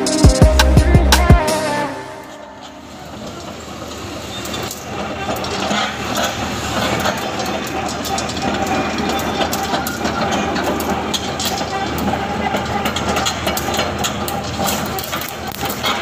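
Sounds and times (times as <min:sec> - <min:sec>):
tracks clicking: 0:00.0 - 0:16.0.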